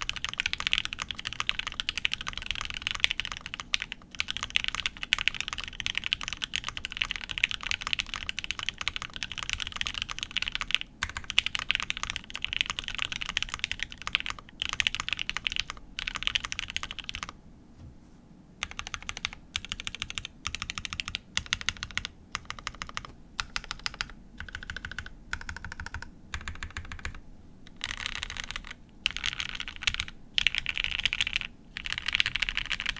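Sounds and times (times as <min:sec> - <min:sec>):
fast typing on mechanical keyboard: 0:00.0 - 0:17.4, 0:18.6 - 0:32.9.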